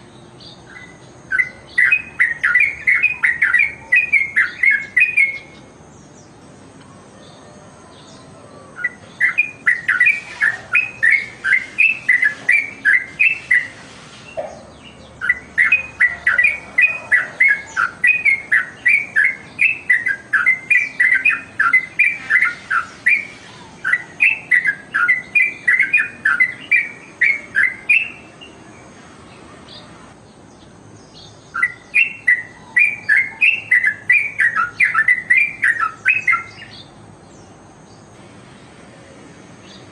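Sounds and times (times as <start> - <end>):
bird singing rapid notes: 0.0 - 38.2.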